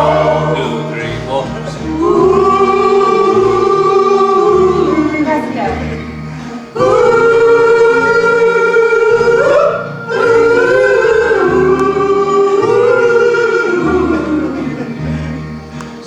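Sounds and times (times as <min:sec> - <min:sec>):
wordless music with held notes: 0:00.0 - 0:16.0.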